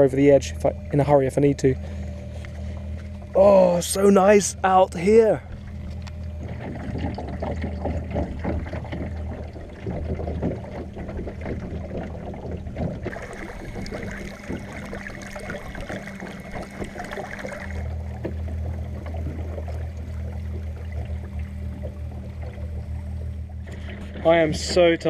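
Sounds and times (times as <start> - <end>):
electric motor hum: 0.0 - 25.0
water splashing against hull: 0.0 - 25.0.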